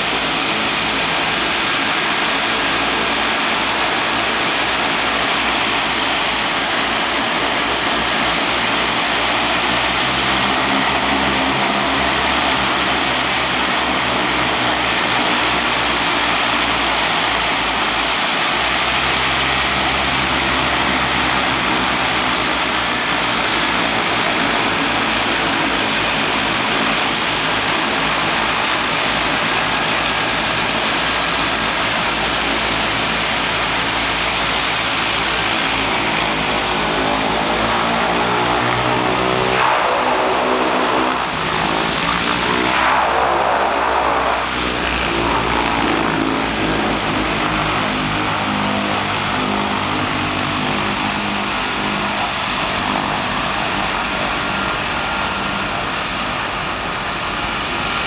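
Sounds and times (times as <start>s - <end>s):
turboprop engines whining: 0.0s - 58.0s.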